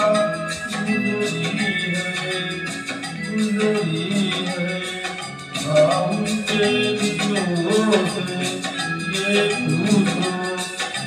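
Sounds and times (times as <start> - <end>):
instrumental film song music: 0.0 - 11.0.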